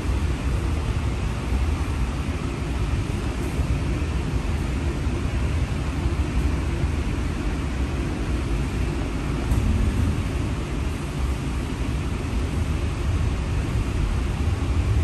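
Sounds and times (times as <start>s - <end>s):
streetcar rumbling on track: 0.0s - 15.0s.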